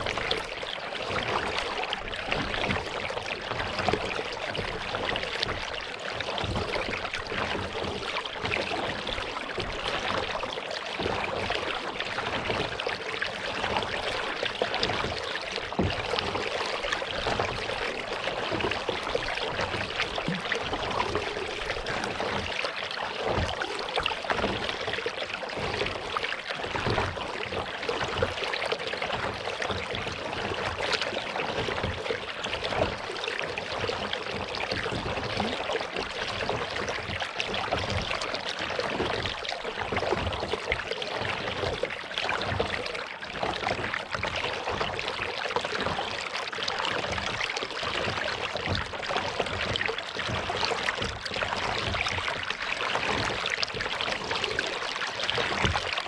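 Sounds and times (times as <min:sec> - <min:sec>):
water splashing around kayak: 0:00.0 - 0:56.0.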